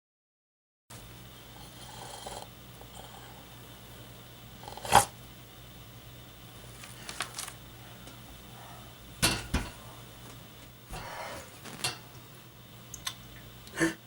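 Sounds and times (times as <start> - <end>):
faint steady hum: 0.9 - 14.0.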